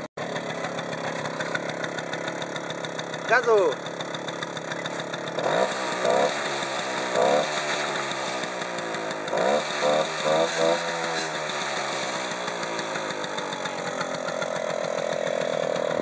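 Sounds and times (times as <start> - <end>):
moped engine revving: 0.0 - 16.0.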